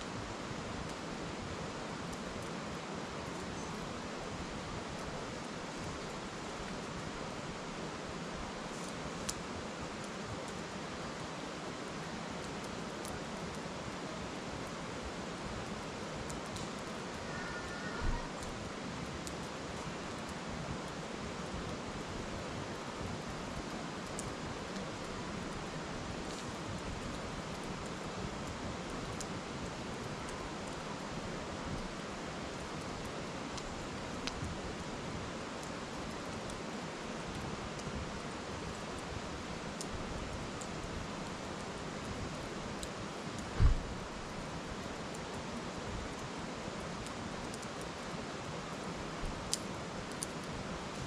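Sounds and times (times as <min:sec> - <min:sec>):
firewood crackling: 0:00.0 - 0:51.0.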